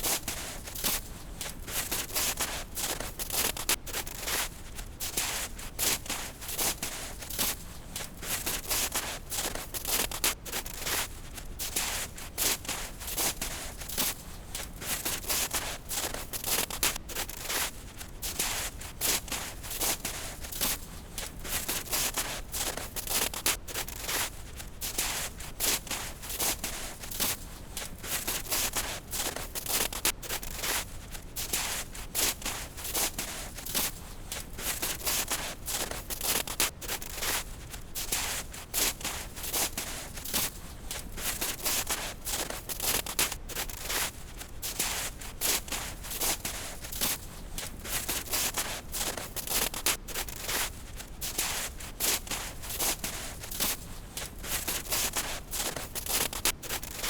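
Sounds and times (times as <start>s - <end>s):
footsteps crunching through snow: 0.1s - 57.0s.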